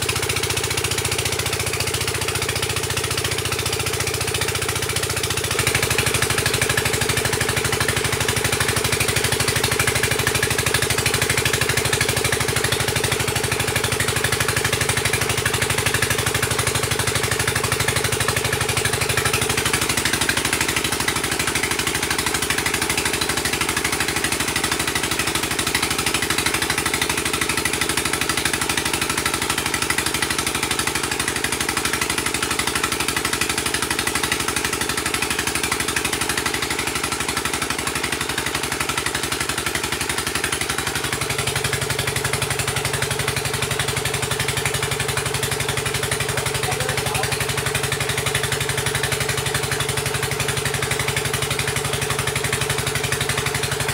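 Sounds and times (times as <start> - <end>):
drilling rig engine running: 0.0 - 53.9.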